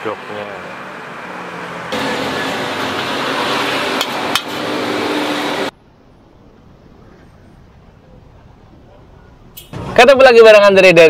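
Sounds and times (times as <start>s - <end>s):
faint street noise: 0.0s - 11.0s.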